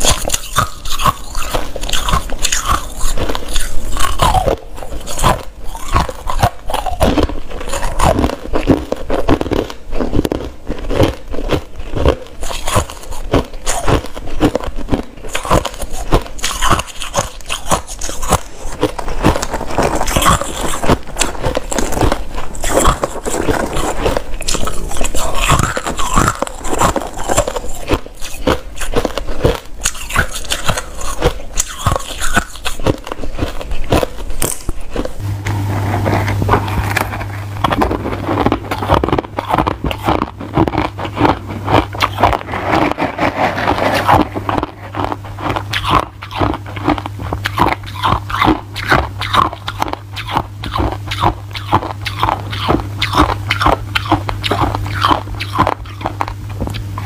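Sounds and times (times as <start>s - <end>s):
crushed ice being chewed: 0.0s - 57.0s.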